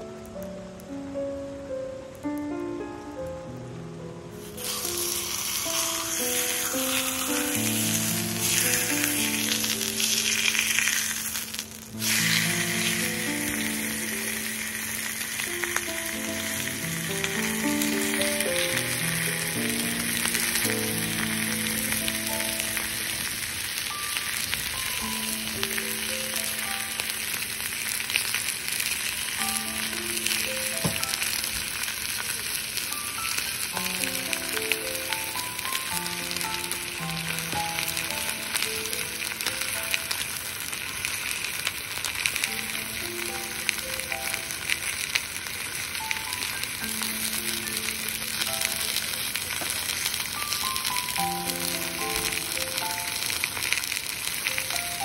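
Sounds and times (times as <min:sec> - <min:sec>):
soft background music: 0:00.0 - 0:55.0
meat sizzling in a skillet: 0:04.4 - 0:55.0.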